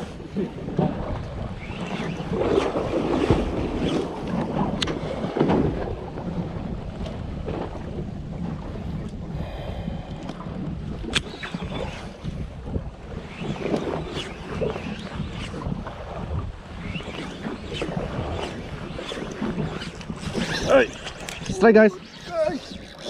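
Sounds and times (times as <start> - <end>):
water rushing around boat: 0.0 - 23.0
wind buffeting microphone: 0.0 - 23.0.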